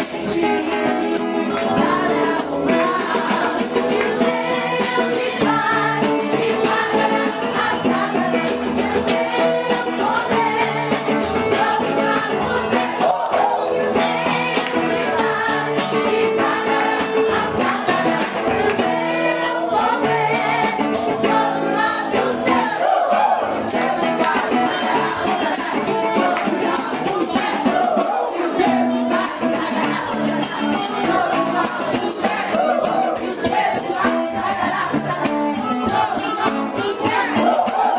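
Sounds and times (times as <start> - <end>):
shaken percussion jingle: 0.0 - 37.9
voices singing over a band: 0.0 - 37.9.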